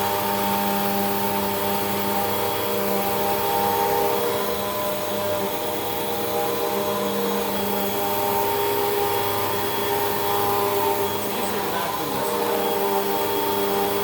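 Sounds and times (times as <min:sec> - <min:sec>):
vacuum cleaner motor whine: 0:00.0 - 0:14.0.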